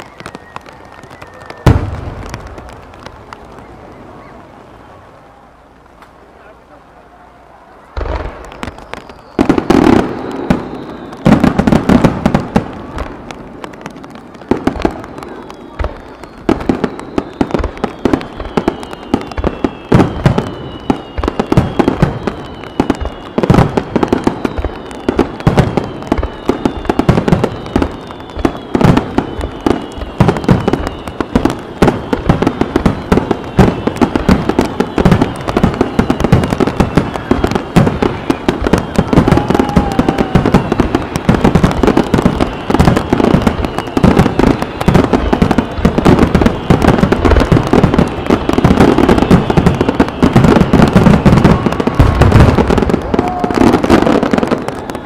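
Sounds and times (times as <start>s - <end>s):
fireworks launching and bursting: 0.0s - 6.5s, 7.8s - 55.0s.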